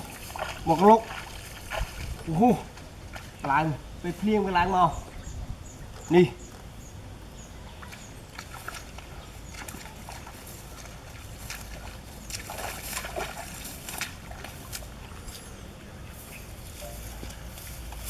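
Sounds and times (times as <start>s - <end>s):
muddy water sloshing and splashing: 0.0s - 5.3s, 7.7s - 18.0s.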